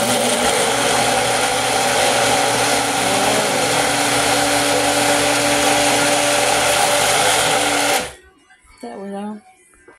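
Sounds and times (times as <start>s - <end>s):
blender motor whirring: 0.0s - 8.2s.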